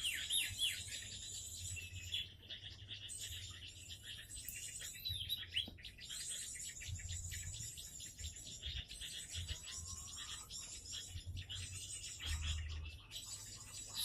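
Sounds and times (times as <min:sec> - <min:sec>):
garden birds chirping: 0:00.0 - 0:14.0.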